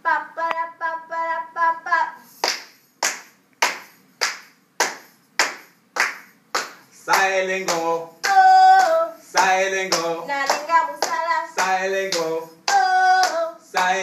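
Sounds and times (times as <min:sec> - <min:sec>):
hands clapping a steady beat: 0:02.4 - 0:14.0.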